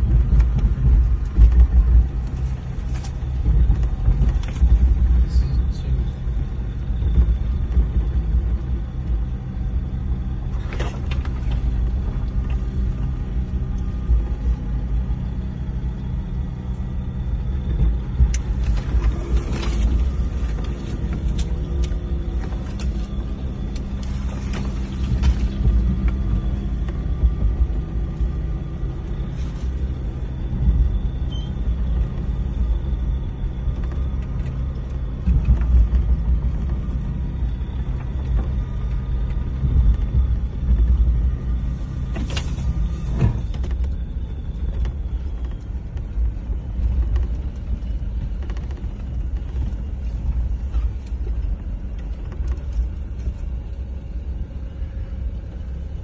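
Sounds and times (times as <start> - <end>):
body and suspension rattles: 0.0 - 56.0
diesel engine rumbling under load: 0.0 - 56.0.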